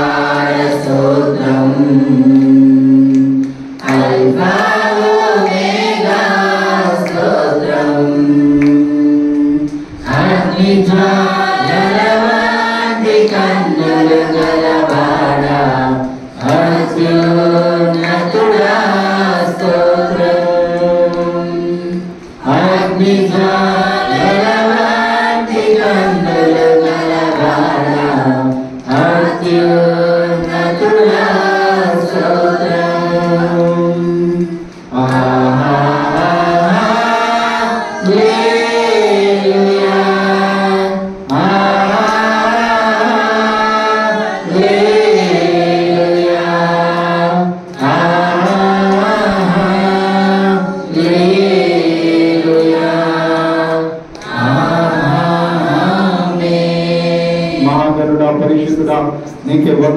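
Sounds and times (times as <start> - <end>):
man singing unaccompanied: 0.0 - 59.9.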